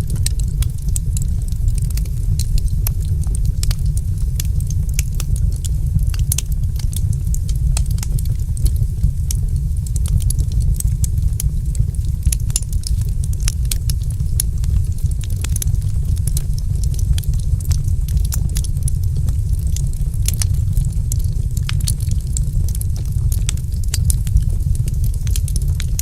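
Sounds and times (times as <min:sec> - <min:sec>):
fireplace fire crackling: 0:00.0 - 0:26.0
steady low rumble: 0:00.0 - 0:26.0.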